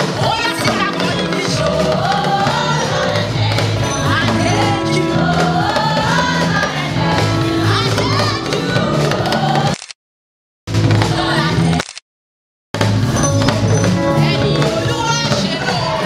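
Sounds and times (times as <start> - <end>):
live band with drums: 0.0 - 9.7, 10.7 - 11.8, 12.8 - 16.0
women's choir singing gospel: 0.0 - 9.7, 10.9 - 11.8, 13.2 - 16.0.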